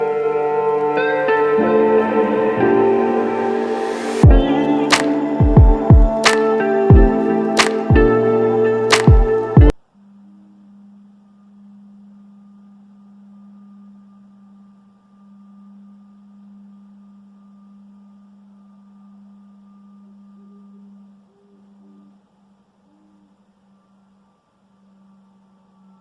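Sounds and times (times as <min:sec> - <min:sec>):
faint higher tone: 0:00.0 - 0:26.0.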